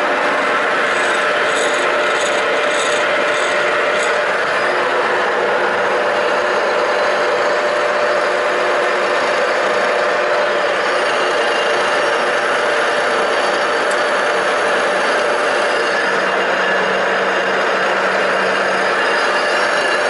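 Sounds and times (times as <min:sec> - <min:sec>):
power tool grinding steel: 0:00.0 - 0:08.1, 0:09.1 - 0:20.0.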